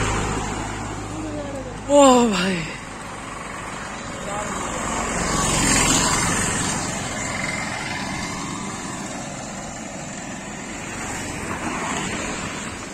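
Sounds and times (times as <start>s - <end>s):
road noise: 0.0s - 12.9s.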